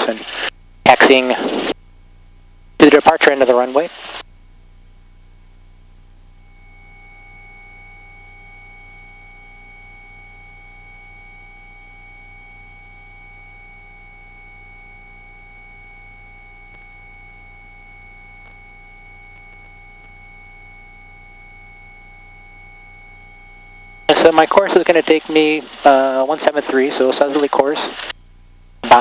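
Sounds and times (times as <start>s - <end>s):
faint high whine: 0.0s - 29.0s
steady electrical hum: 0.0s - 29.0s.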